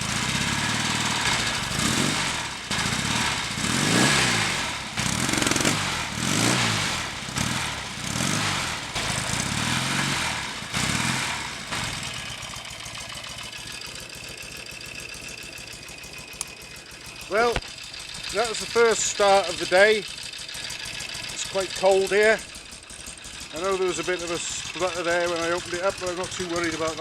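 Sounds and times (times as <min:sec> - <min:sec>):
motorcycle engine revving and idling: 0:00.0 - 0:27.0.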